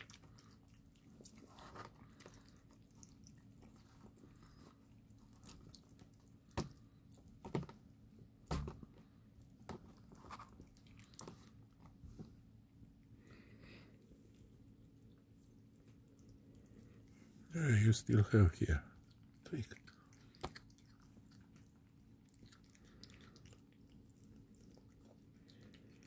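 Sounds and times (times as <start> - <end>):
kittens chewing wet meat: 0.0 - 26.0.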